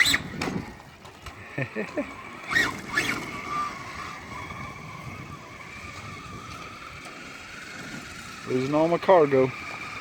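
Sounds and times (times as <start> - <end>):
rc truck motor whining: 0.0 - 10.0.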